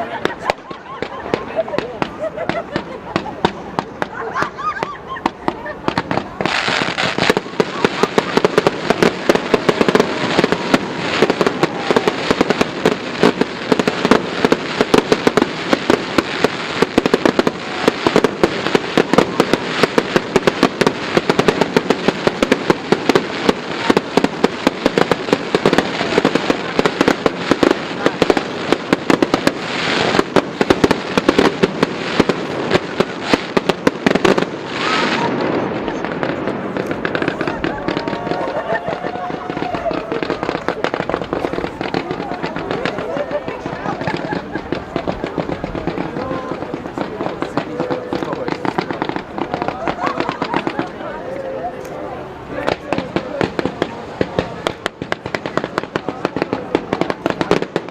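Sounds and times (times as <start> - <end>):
fireworks banging and crackling: 0.0 - 57.9.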